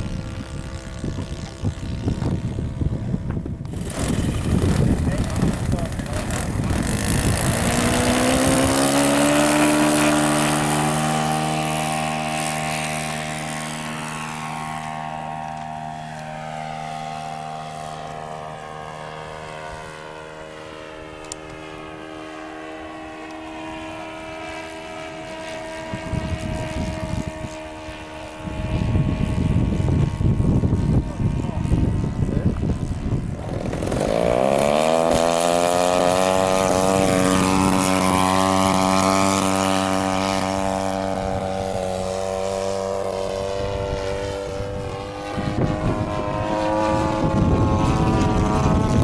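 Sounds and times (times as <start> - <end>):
model airplane engine: 0.0 - 49.0.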